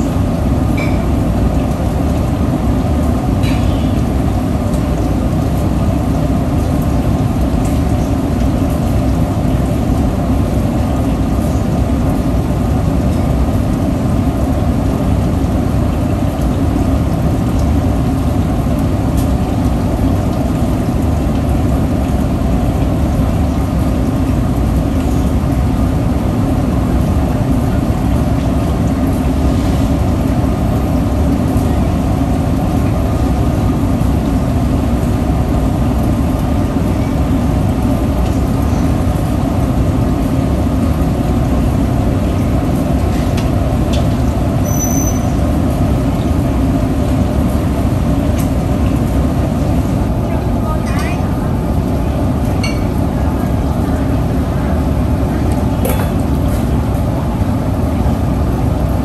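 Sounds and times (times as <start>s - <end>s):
stove burner roaring: 0.0s - 59.0s.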